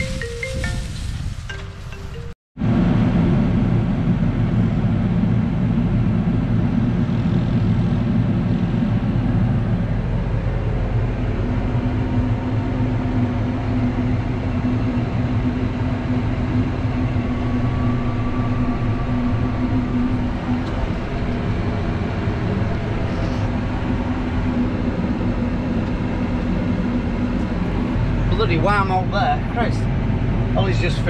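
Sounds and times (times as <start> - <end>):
tractor engine drone: 0.0 - 31.0
steady hum: 2.6 - 31.0.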